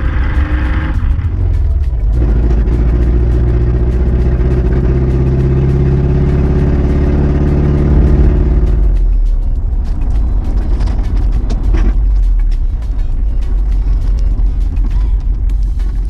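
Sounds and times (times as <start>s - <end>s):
truck engine driving: 0.0s - 16.0s.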